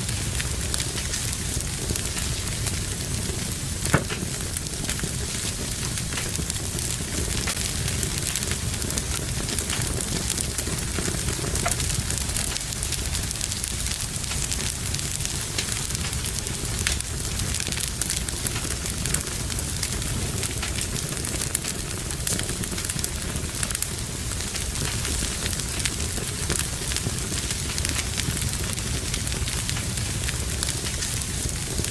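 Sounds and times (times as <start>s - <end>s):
fire crackling and popping: 0.0s - 31.9s
low rumble of flames: 0.0s - 31.9s.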